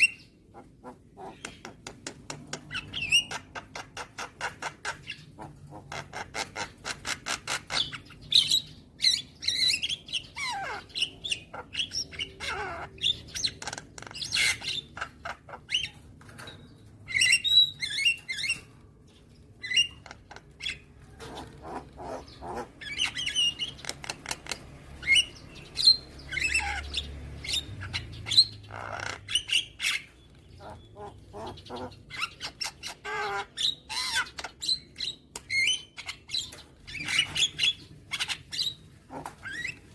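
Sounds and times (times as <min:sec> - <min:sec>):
myna singing chatter and squawks: 0:00.0 - 0:18.9, 0:19.5 - 0:39.9.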